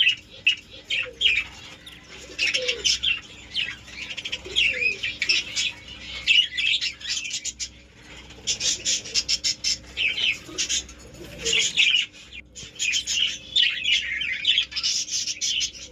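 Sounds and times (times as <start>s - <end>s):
budgerigars chattering: 0.0s - 15.9s.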